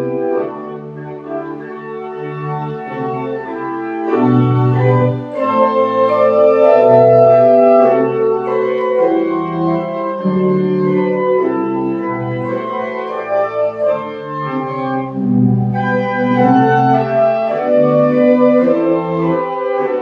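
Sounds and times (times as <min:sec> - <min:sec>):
pipe organ playing chords: 0:00.0 - 0:20.0.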